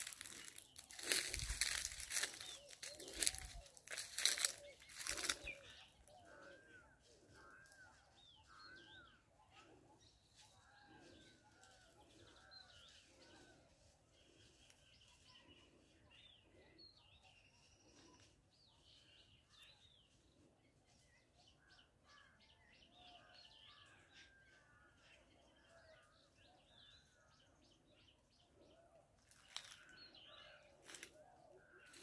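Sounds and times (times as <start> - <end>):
faint birdsong: 0.0 - 32.0.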